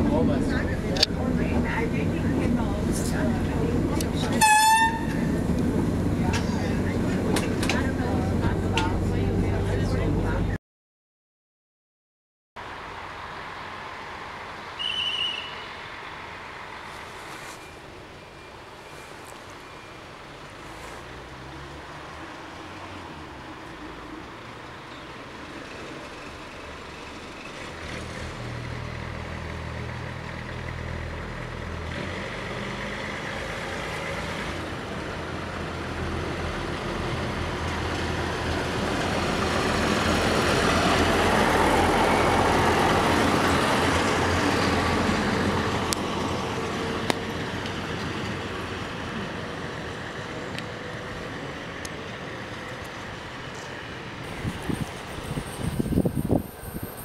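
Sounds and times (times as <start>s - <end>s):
railbus engine accelerating: 0.0s - 10.6s, 12.6s - 57.0s.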